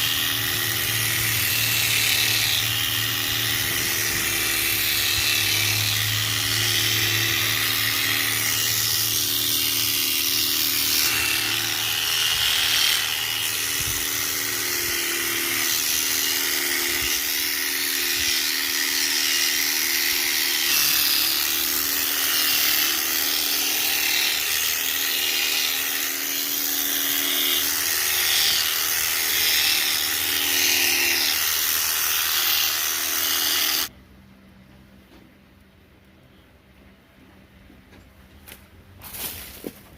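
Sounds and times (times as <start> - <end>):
electric shears motor buzzing: 0.0 - 33.9.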